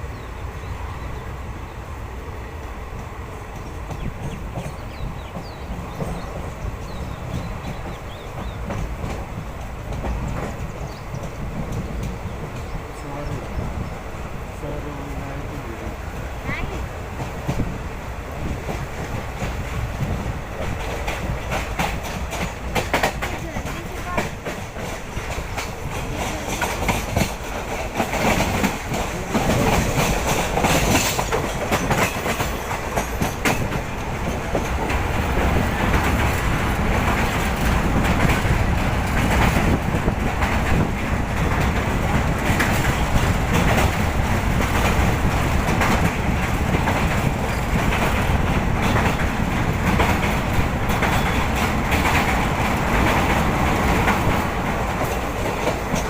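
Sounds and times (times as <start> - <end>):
train coach rumble: 0.0 - 56.0
wheels clacking over rail joints: 2.6 - 56.0.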